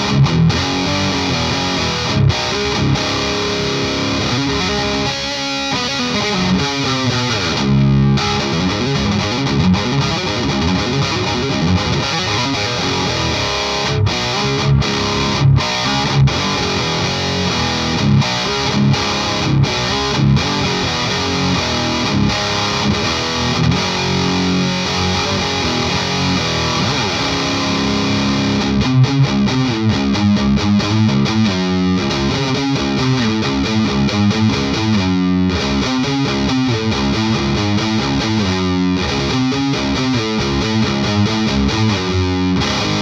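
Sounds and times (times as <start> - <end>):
overdriven electric guitar: 0.0 - 43.0.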